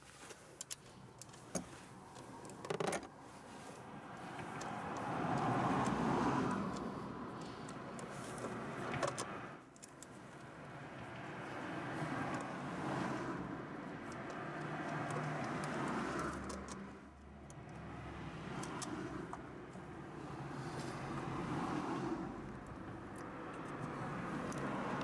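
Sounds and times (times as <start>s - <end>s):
cars passing by: 0.0s - 25.0s.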